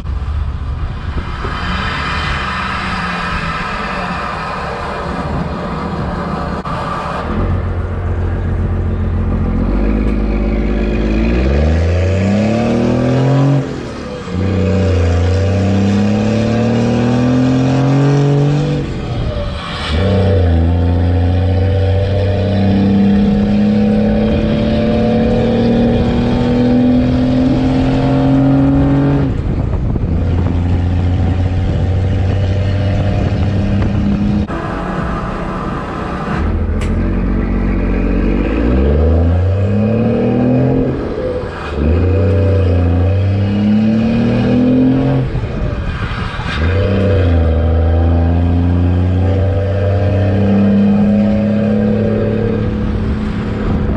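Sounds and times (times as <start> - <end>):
diesel engine accelerating: 0.0 - 53.9.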